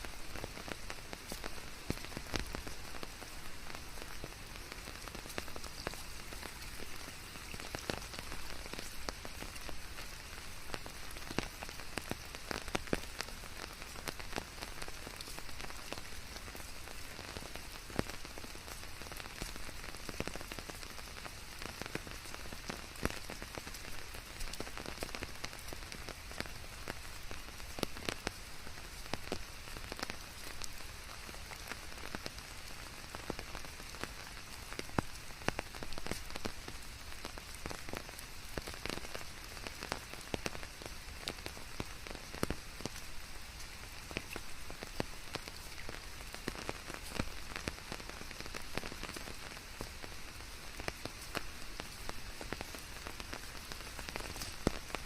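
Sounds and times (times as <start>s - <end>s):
raindrops striking hard surface: 0.0s - 55.0s
steady rain hiss: 0.0s - 55.0s.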